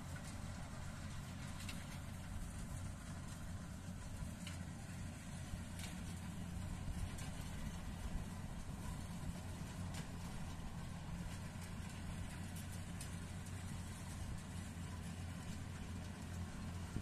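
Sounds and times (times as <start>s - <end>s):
distant harvester engine hum: 0.0s - 17.0s.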